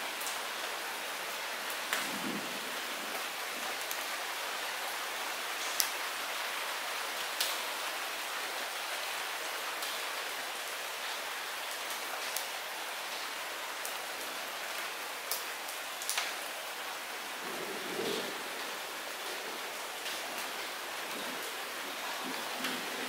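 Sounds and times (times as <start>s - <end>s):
light rain falling: 0.0s - 23.0s
raindrops dripping on surfaces: 0.0s - 23.0s.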